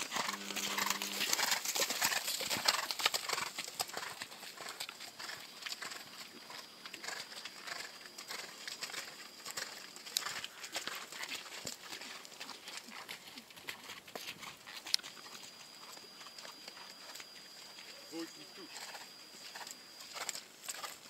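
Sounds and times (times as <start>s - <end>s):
horse hoofbeats on sand: 0.0s - 17.9s.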